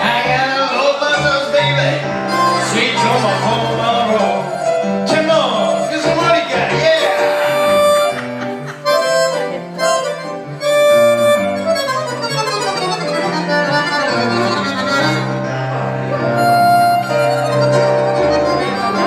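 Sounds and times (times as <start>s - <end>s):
reed lead instrument: 0.0s - 19.0s.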